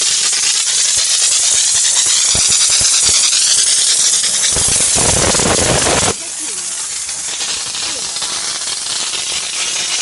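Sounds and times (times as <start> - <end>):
deep steam rush: 0.0 - 10.0
steam jet hissing: 0.0 - 10.0.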